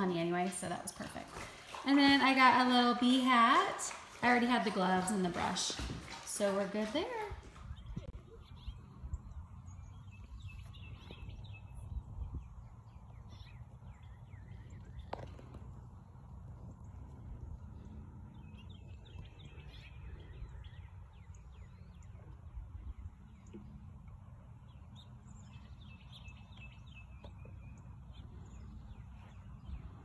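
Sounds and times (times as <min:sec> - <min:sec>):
birds chirping: 0:00.0 - 0:30.0
low background rumble: 0:00.0 - 0:30.0.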